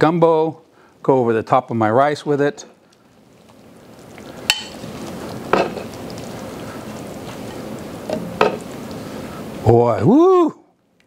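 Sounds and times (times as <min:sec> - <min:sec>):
stew bubbling in a skillet: 0:00.0 - 0:10.4.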